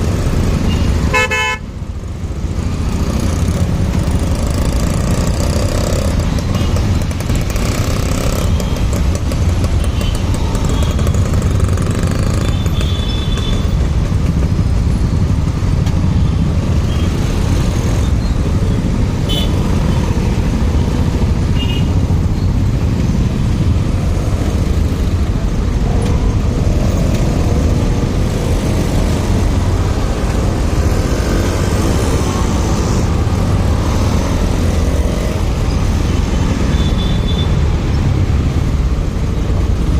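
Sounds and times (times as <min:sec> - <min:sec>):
motorcycle engine: 0:00.0 - 0:37.2
road rumble: 0:00.0 - 0:39.9.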